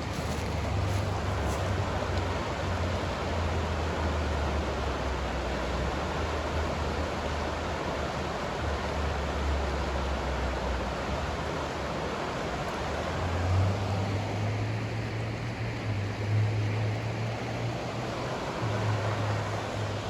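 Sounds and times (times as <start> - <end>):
pink noise hiss: 0.0 - 20.0.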